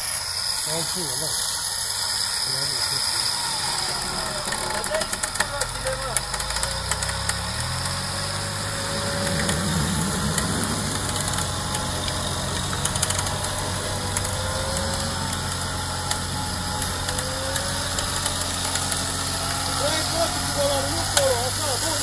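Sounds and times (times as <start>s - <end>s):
suv engine running: 0.0s - 22.0s.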